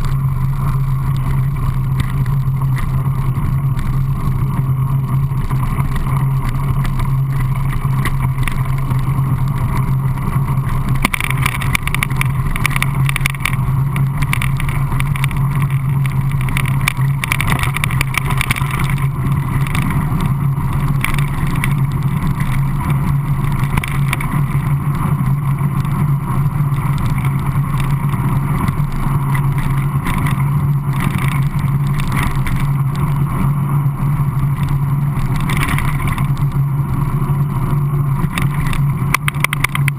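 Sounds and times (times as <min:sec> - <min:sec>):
bike rattling: 0:00.0 - 0:39.9
tyres crunching on gravel: 0:00.0 - 0:39.9
wind rumble on microphone: 0:00.0 - 0:39.9.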